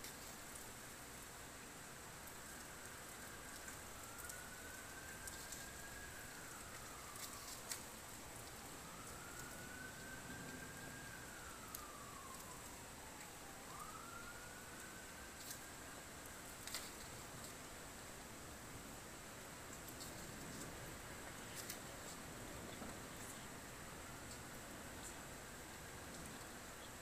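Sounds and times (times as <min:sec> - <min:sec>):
steady hiss: 0:00.0 - 0:27.0
faint siren wailing: 0:00.6 - 0:27.0.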